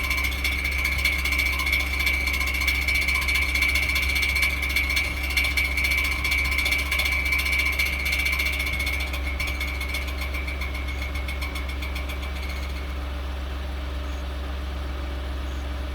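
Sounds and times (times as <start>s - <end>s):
rapid engine ticking: 0.0s - 15.9s
truck engine idling: 0.0s - 15.9s.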